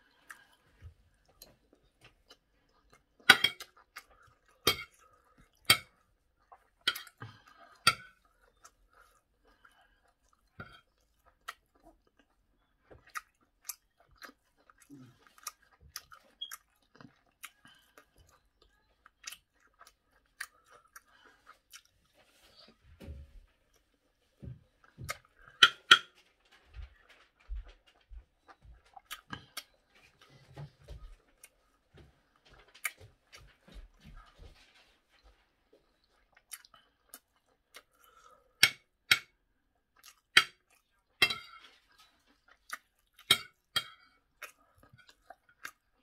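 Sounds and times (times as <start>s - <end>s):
close-up chewing: 0.0s - 39.1s, 39.8s - 46.0s.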